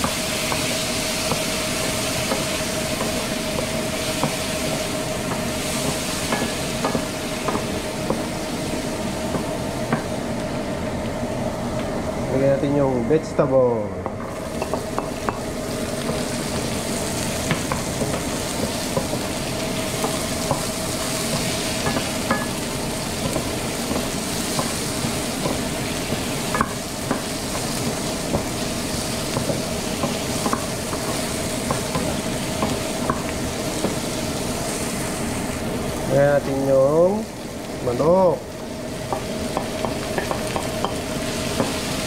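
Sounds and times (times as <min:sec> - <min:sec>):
vegetables sizzling in frying pan: 0:00.0 - 0:12.0, 0:13.8 - 0:42.0.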